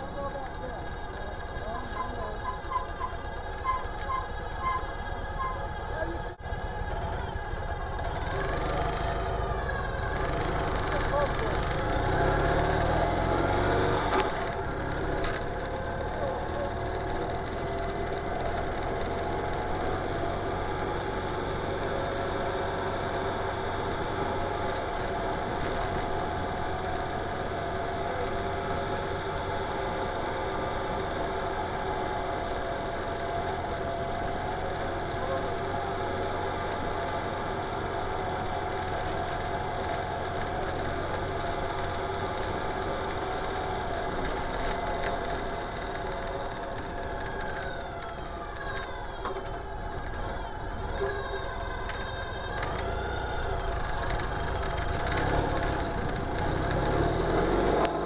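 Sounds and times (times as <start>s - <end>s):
motorcycle engine running: 0.0s - 58.0s
tyre noise on dirt road: 0.0s - 58.0s.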